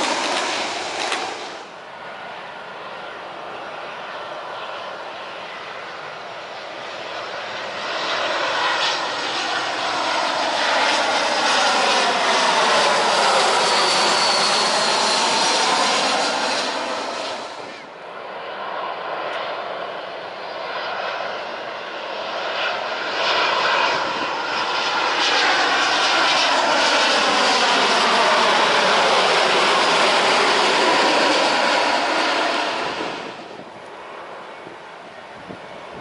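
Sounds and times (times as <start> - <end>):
jet airliners passing overhead: 0.0 - 36.0.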